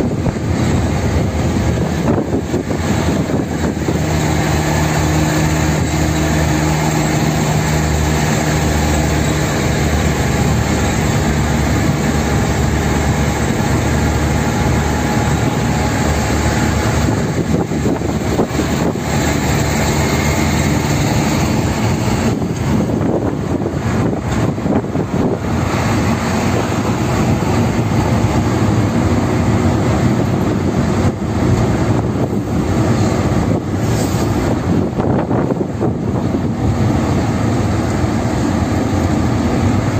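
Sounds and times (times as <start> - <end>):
low drone: 0.0 - 35.0
car engine hum: 0.0 - 39.9
road and wind noise: 0.0 - 39.9.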